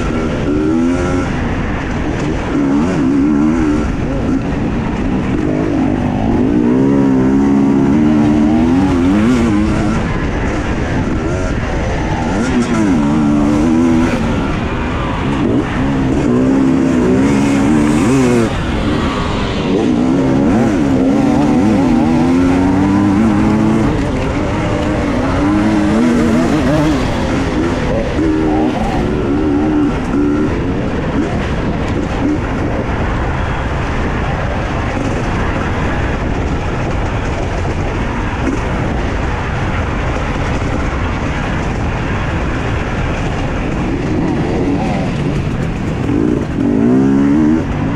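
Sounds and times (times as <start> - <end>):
motorcycle engine revving: 0.0 - 47.9
rushing noise: 0.0 - 47.9.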